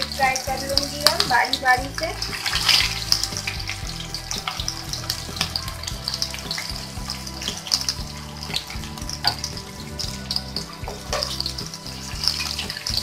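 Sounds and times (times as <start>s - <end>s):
patties deep-frying in oil: 0.0s - 13.0s.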